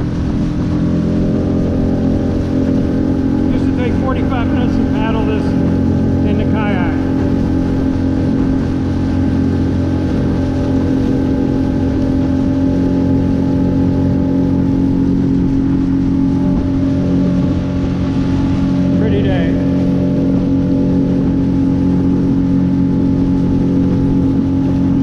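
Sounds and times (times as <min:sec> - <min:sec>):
choppy water: 0:00.0 - 0:25.0
small boat motor: 0:00.0 - 0:25.0
wind: 0:00.0 - 0:25.0.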